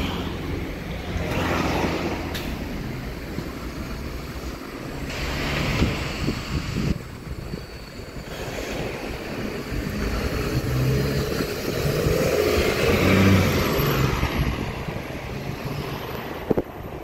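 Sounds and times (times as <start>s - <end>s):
bus diesel engine passing: 0.0s - 17.0s.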